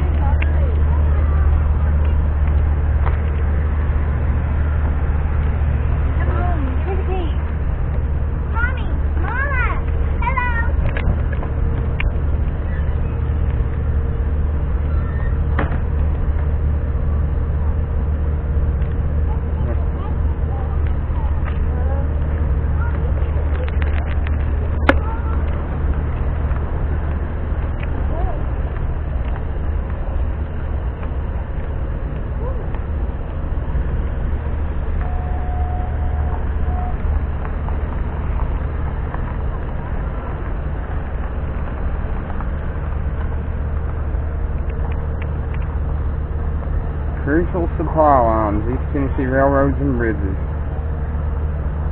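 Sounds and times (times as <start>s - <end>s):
faint steady hum: 0.0s - 51.9s
vehicle rumble: 0.0s - 51.9s.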